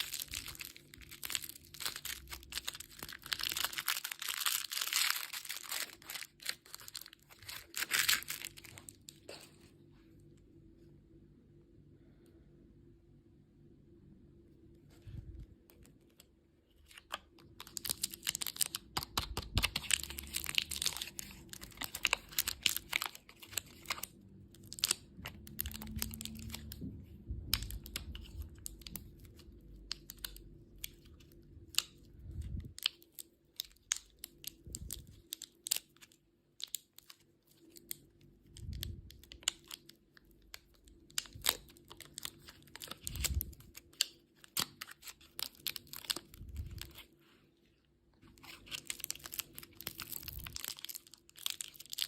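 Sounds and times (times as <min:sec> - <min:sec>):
plastic wrappers crinkling: 0:00.0 - 0:09.7, 0:15.2 - 0:47.2, 0:48.2 - 0:52.0.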